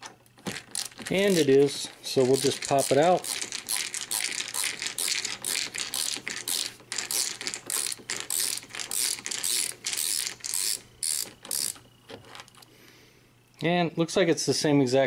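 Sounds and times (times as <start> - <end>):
ratchet clicking: 0.5 - 12.7.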